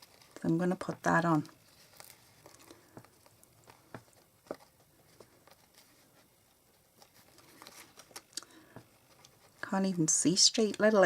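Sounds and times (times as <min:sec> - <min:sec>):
card rustling: 0:00.0 - 0:09.7.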